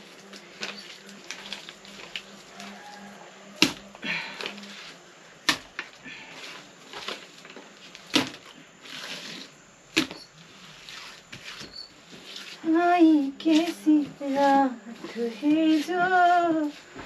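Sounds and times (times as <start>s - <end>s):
soft scraping and rustling: 0.0s - 3.5s, 5.8s - 9.6s, 10.2s - 17.0s.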